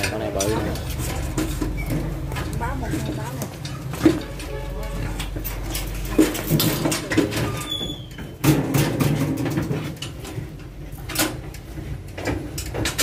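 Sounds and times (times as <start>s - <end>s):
metal bars clattering: 0.0s - 13.0s.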